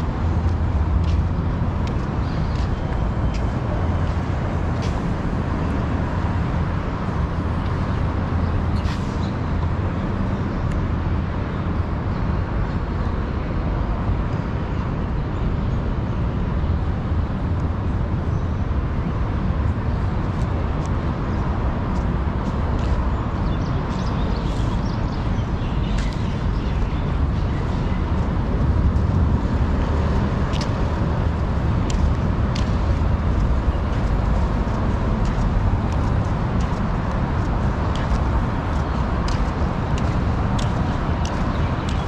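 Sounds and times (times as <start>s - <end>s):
low rumble of city traffic: 0.0s - 42.0s.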